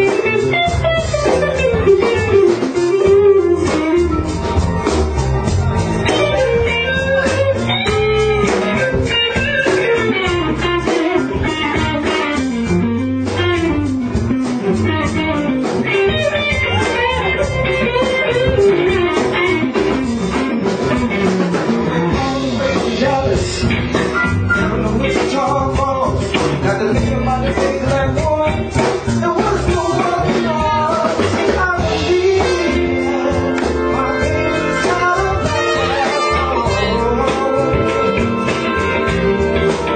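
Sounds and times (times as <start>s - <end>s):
bass guitar: 0.0s - 39.9s
electric guitar lead: 0.0s - 39.9s
steady drum beat: 0.0s - 39.9s.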